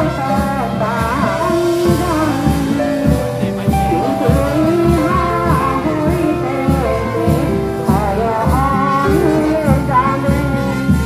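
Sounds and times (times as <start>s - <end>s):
music with steady beat: 0.0s - 11.0s
person singing: 0.0s - 11.0s.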